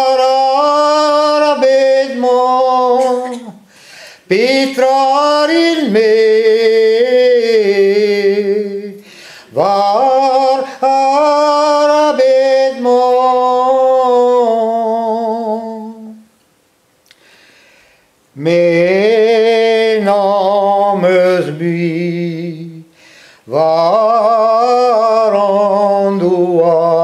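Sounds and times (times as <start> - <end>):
man singing unaccompanied: 0.0 - 16.3, 18.3 - 27.0.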